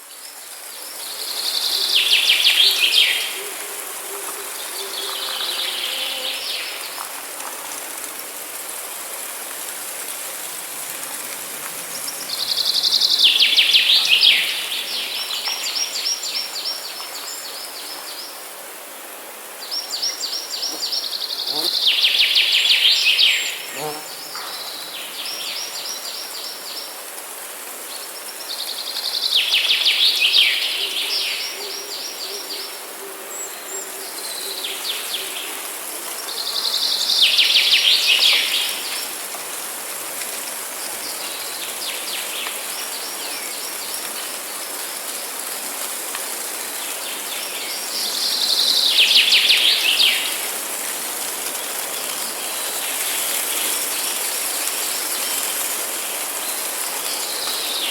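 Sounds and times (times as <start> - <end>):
background hiss: 0.0 - 57.9.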